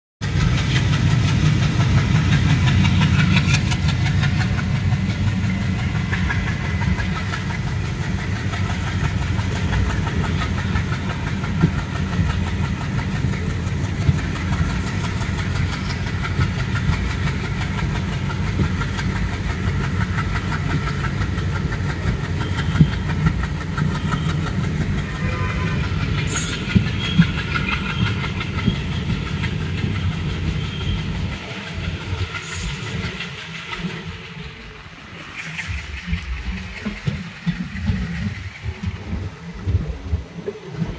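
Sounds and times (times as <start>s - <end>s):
train low rumble: 0.2s - 40.9s
wheels clicking over rail joints: 0.2s - 40.9s.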